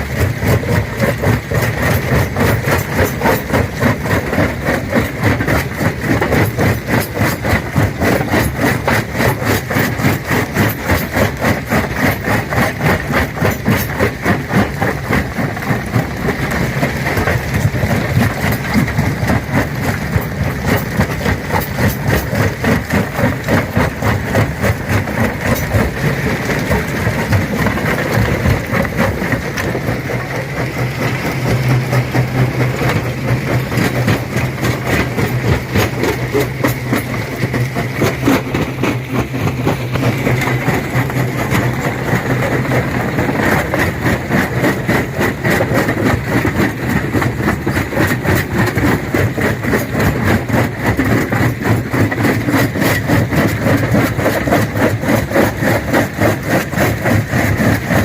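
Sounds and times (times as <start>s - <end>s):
stone crusher hum: 0.0s - 58.0s.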